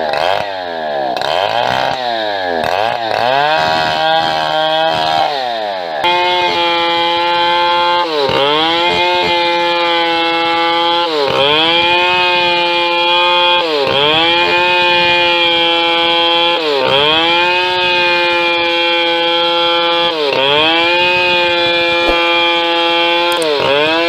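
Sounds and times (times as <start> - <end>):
chainsaw cutting a log: 0.0 - 24.0.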